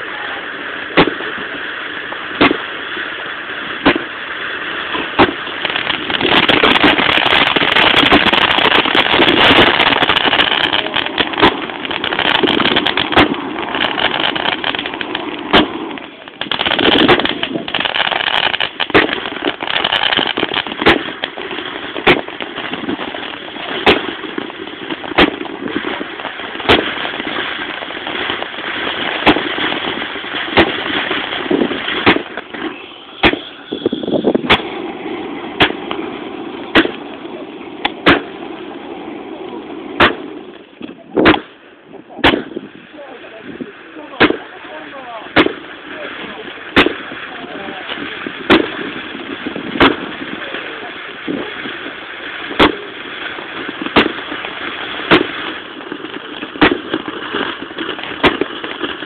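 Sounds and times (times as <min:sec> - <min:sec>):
firework bangs: 0:00.0 - 0:59.0
hiss and crackle of sparks: 0:00.0 - 0:59.0.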